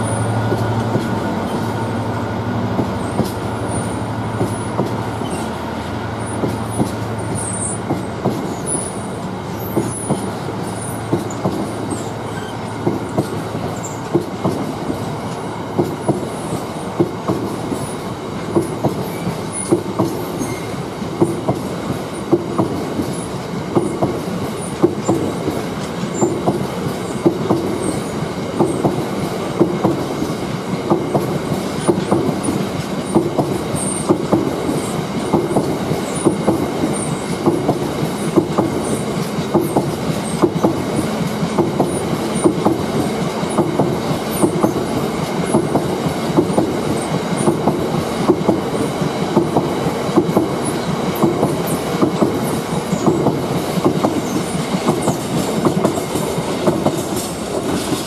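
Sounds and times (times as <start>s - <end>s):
freight train rolling past: 0.0s - 58.0s
wheels clattering over rail joints: 6.2s - 58.0s.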